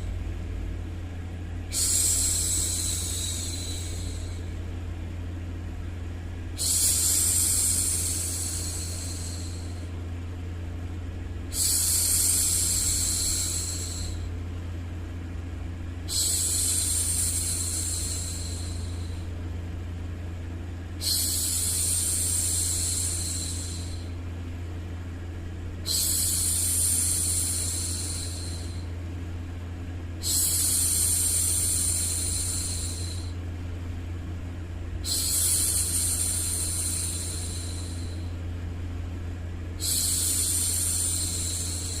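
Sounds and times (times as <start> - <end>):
steady white noise: 0.0 - 42.0.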